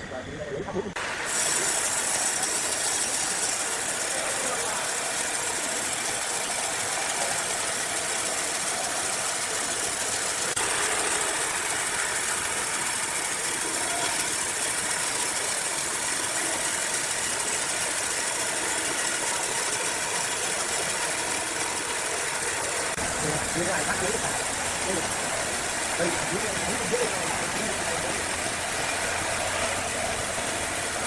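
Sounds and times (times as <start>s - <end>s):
sawmill machinery running: 0.8s - 31.0s.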